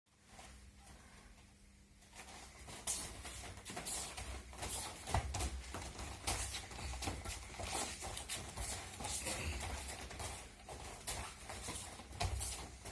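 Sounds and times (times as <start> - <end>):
bare feet shuffling on mats: 0.1 - 12.9.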